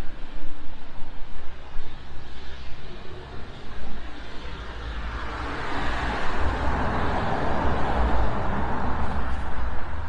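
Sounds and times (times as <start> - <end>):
low rumble of traffic: 0.0 - 10.0.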